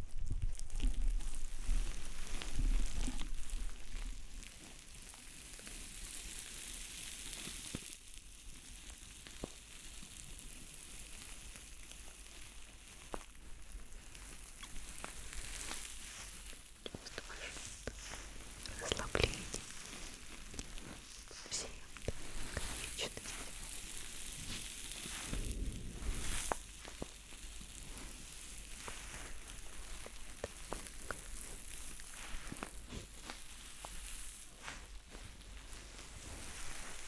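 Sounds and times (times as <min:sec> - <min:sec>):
crackling hissing rustle: 0:00.0 - 0:37.0.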